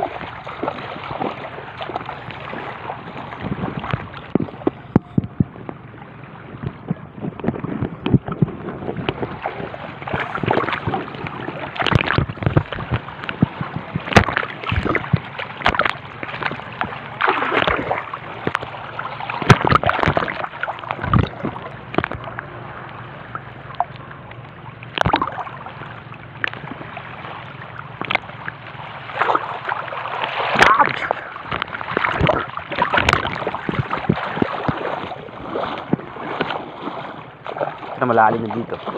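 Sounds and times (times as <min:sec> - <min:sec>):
seawater sloshing and splashing: 0:00.0 - 0:38.9.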